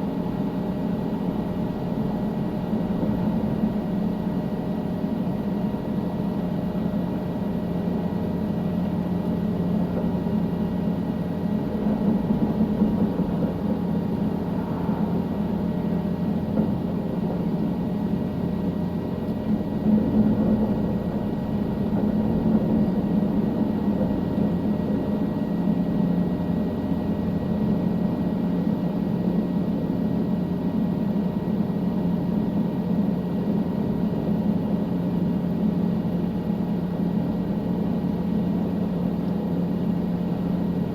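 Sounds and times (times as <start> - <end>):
helicopter engine and rotor: 0.1 - 40.9.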